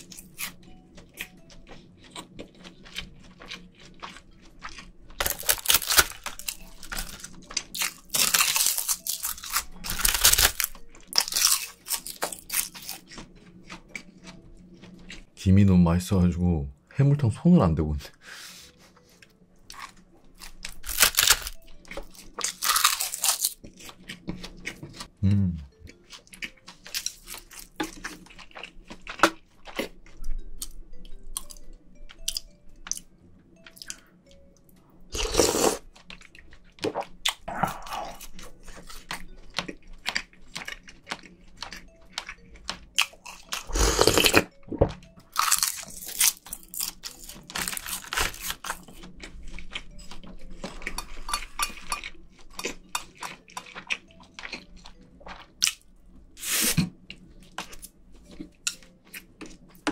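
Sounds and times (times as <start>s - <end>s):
chewing and biting: 0.0s - 15.3s, 19.2s - 25.2s, 25.8s - 34.5s, 35.1s - 59.9s.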